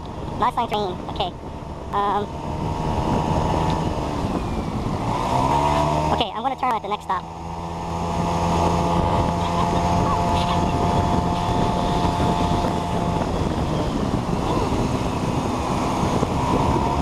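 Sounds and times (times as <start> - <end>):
wind buffeting microphone: 0.0 - 6.2, 7.2 - 17.0
scooter engine running: 0.0 - 17.0.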